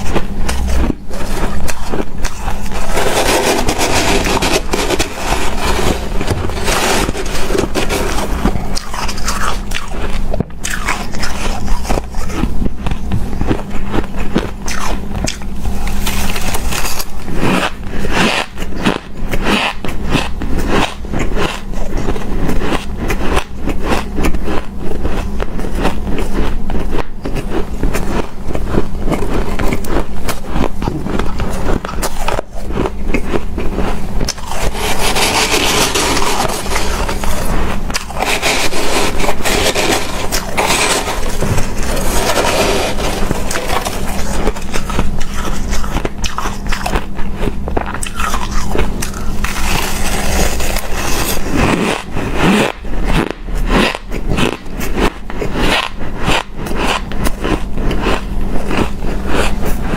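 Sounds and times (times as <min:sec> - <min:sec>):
chewing shaved ice: 0:00.0 - 0:59.9
low hum: 0:00.0 - 0:59.9.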